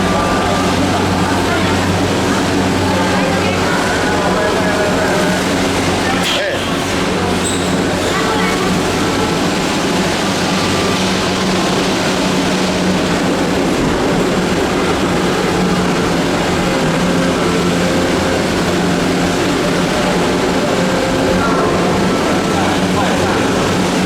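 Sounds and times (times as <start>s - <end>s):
vehicle running heard from inside: 0.0s - 24.0s.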